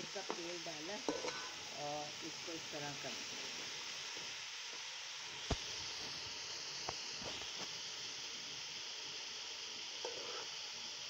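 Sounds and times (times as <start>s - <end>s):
cabbage sizzling in hot oil: 0.0s - 11.0s.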